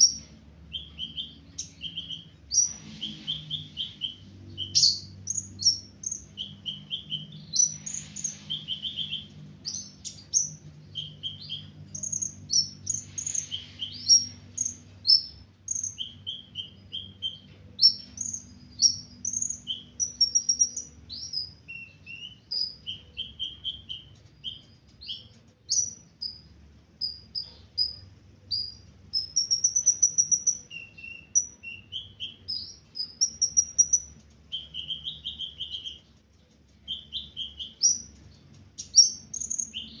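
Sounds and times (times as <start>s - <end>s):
sunbird singing high chirps: 0.0s - 36.1s, 36.8s - 40.0s.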